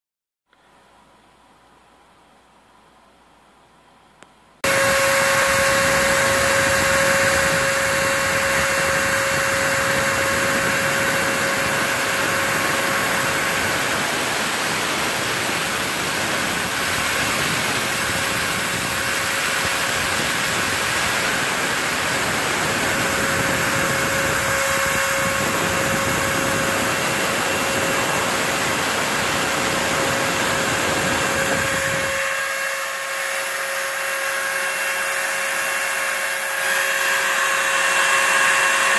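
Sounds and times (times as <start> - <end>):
router spindle whining: 4.6 - 38.9
shop vacuum rumble: 4.6 - 38.9.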